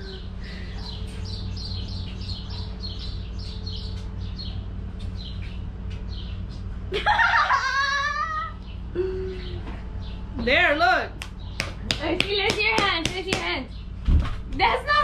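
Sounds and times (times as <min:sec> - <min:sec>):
bird chirping: 0:00.0 - 0:06.8, 0:08.5 - 0:14.0
steady low hum: 0:00.0 - 0:15.0.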